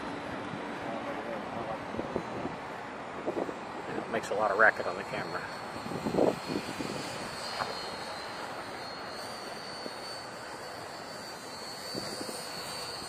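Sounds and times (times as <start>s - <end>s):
wind buffeting microphone: 0.0s - 11.0s, 11.8s - 13.0s
small electric motors whining: 0.0s - 13.0s.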